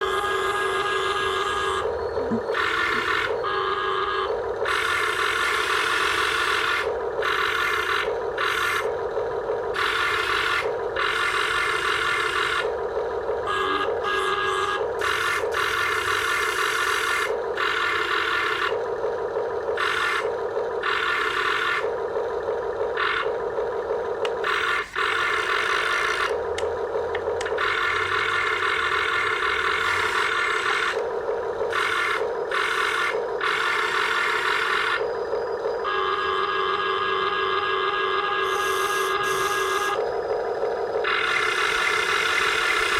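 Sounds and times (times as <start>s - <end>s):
electric motors whirring: 0.0s - 8.9s, 9.8s - 42.9s.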